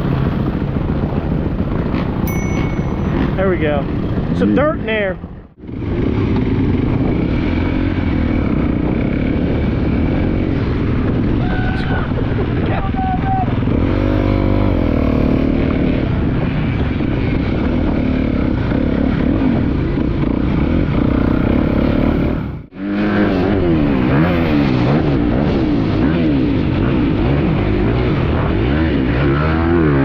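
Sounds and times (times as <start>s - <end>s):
dirt bike engine revving: 1.7s - 11.4s, 13.4s - 30.0s.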